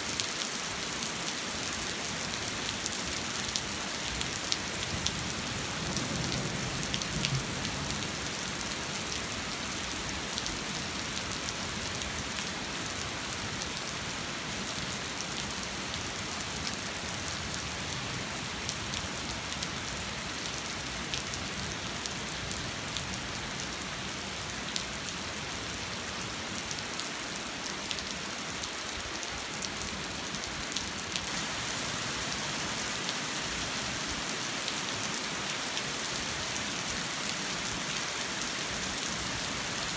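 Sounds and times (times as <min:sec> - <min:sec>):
rain pattering: 0:00.2 - 0:39.9.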